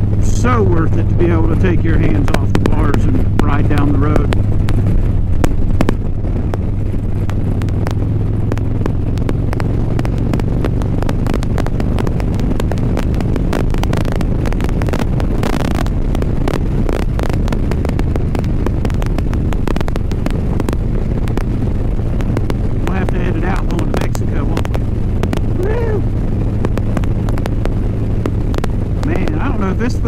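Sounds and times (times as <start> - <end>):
motorcycle engine cruising: 0.0 - 30.0
wind buffeting microphone: 0.0 - 30.0.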